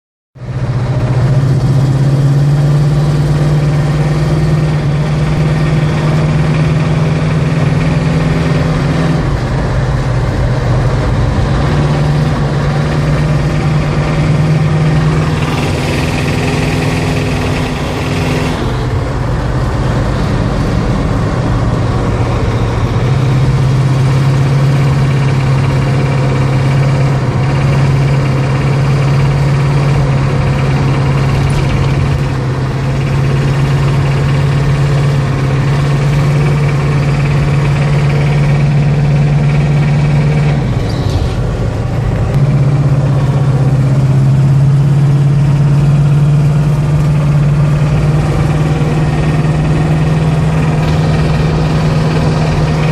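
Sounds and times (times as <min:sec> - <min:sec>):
car engine humming: 0:00.4 - 0:52.9.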